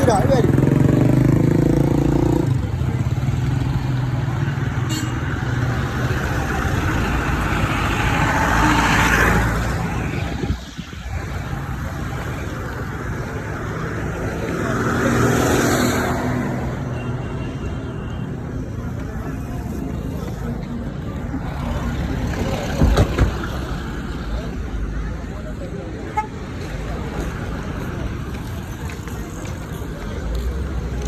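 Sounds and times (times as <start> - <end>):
vehicle engine and road noise: 0.0 - 31.0.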